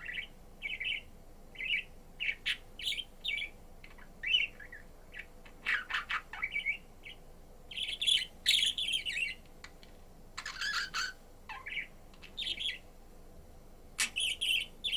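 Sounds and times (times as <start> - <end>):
budgerigar chirping: 0.0 - 9.4, 10.4 - 12.8, 14.0 - 14.9.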